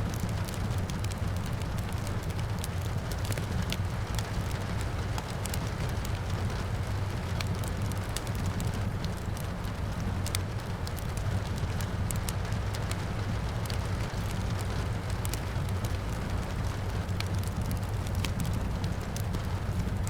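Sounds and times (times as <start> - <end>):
rain falling: 0.0 - 20.0
wood fire crackling: 0.0 - 20.0.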